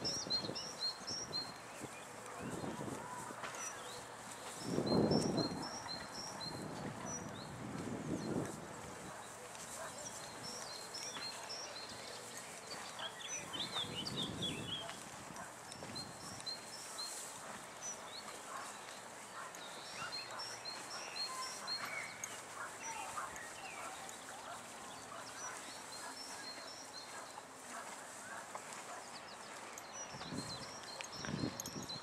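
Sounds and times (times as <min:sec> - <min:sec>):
horses eating hay: 0:00.0 - 0:32.0
small birds chirping: 0:00.0 - 0:32.0.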